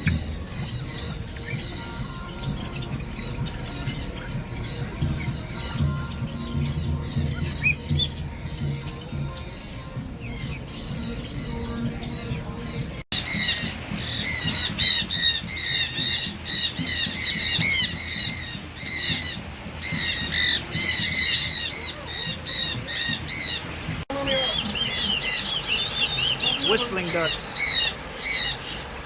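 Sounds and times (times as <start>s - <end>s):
flock of birds squawking: 0.0s - 29.0s
gliding bird calls: 0.0s - 29.0s.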